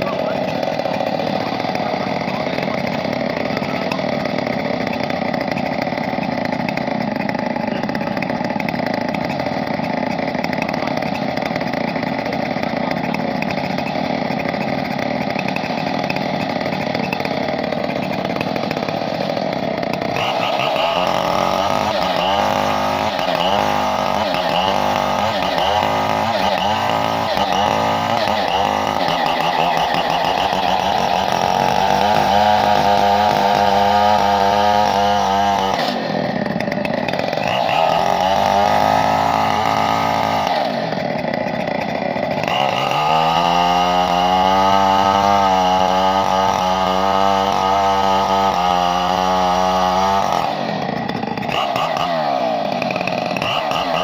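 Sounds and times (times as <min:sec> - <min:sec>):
chainsaw engine running: 0:00.0 - 0:54.0.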